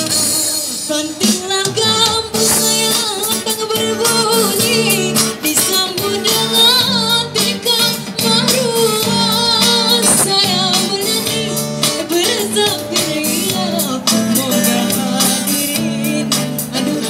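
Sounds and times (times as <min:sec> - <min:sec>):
guitar accompaniment: 0:00.0 - 0:17.0
woman singing into a microphone: 0:00.0 - 0:17.0.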